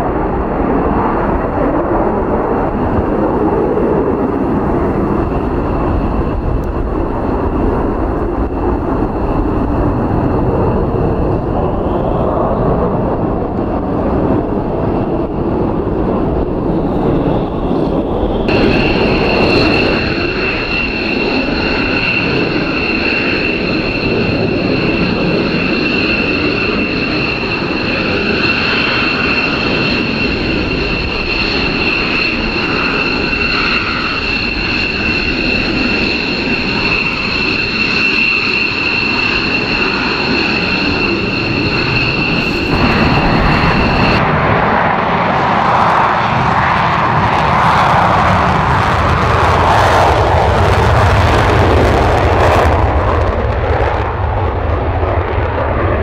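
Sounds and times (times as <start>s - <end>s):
jet engines whining: 0.0s - 56.0s
loud jet engine roar: 0.0s - 56.0s.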